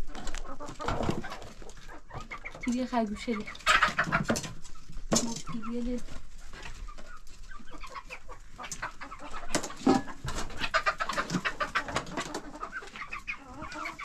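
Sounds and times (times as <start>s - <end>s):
birds calling: 0.4s - 14.0s.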